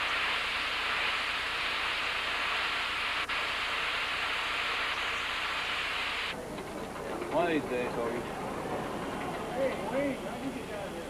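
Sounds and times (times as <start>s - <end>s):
steam locomotive venting steam: 0.0s - 11.0s.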